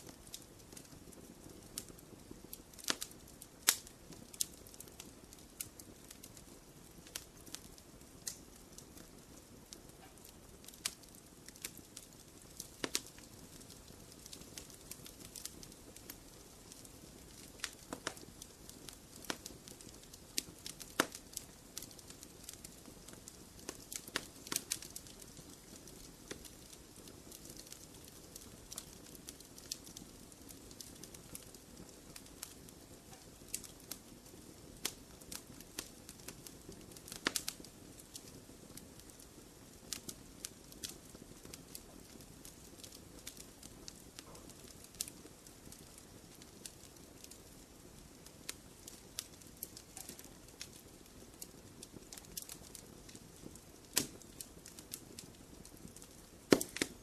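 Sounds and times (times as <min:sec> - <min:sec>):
fire crackling and popping: 0:00.0 - 0:57.0
fire flames rumbling: 0:00.0 - 0:57.0.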